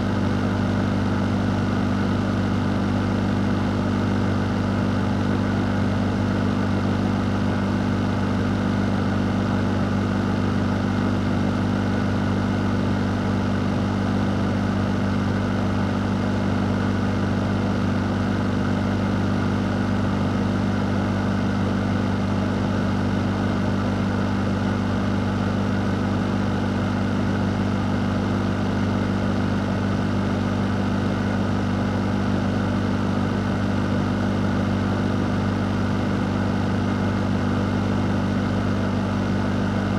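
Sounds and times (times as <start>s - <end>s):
fan running: 0.0s - 39.9s.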